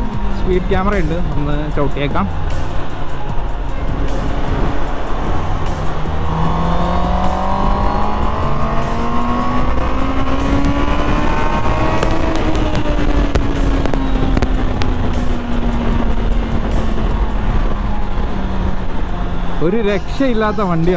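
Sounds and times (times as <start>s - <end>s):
motorcycle engine accelerating: 0.0s - 19.6s
wind rush: 0.0s - 19.6s.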